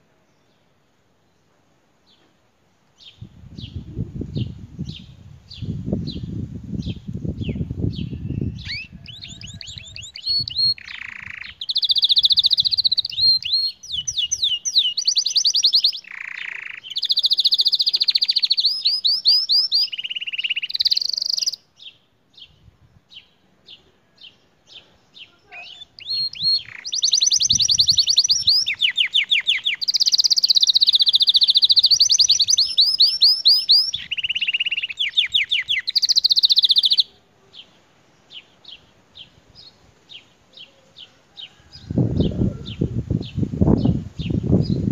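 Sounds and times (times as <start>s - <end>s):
canary singing trills: 3.0s - 44.9s
scattered bird chirps: 6.8s - 22.6s, 23.2s - 44.9s.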